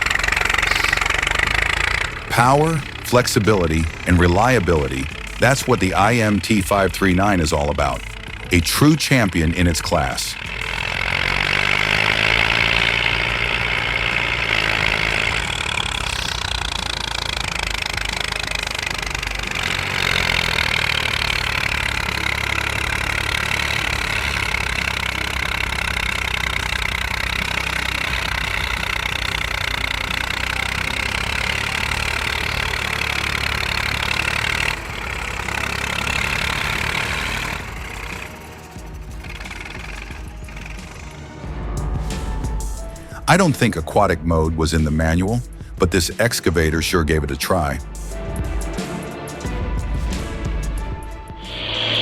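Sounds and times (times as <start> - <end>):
diesel engine clattering: 0.0 - 52.0.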